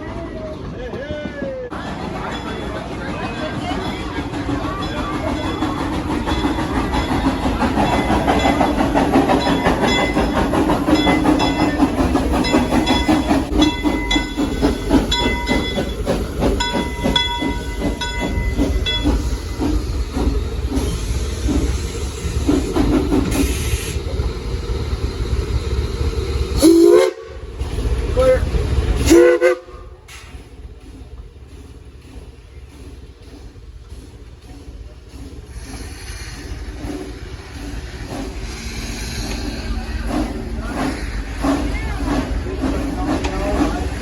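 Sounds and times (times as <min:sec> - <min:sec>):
rhythmic train clatter: 0:00.0 - 0:44.0
steam train running rumble: 0:00.0 - 0:44.0
steam hiss: 0:02.0 - 0:44.0.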